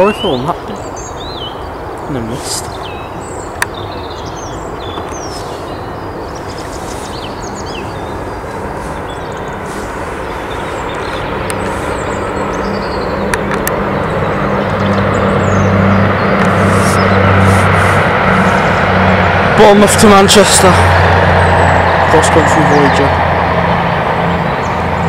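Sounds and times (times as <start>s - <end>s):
birds chirping: 0.0s - 25.0s
distant jet engines roaring: 0.0s - 25.0s
low hum: 0.0s - 25.0s.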